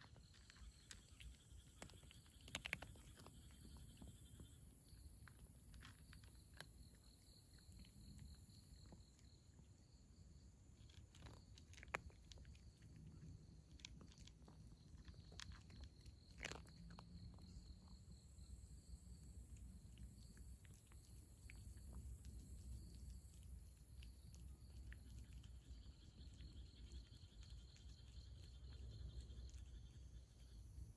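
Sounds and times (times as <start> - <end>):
cat crunching kibble: 0.0 - 9.2, 10.7 - 30.5.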